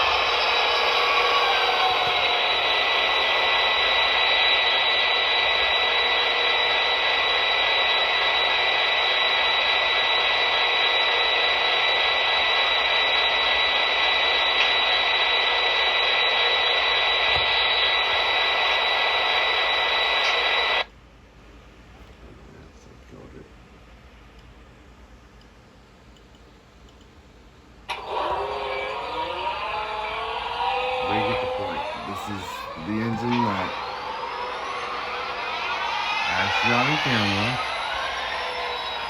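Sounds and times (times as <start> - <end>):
model locomotive diesel sound effect: 0.0 - 20.9, 27.8 - 39.0.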